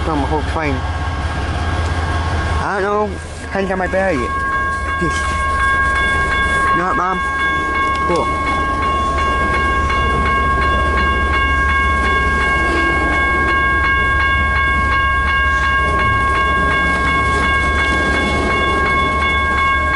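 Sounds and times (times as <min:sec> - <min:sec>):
railroad crossing bell ringing: 0:00.0 - 0:19.9
train cars rumbling past: 0:00.0 - 0:19.9.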